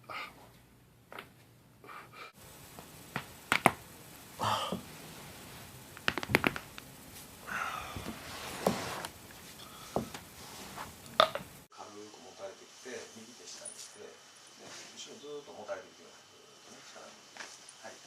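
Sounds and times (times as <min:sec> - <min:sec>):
soft hiss: 0:00.0 - 0:18.0.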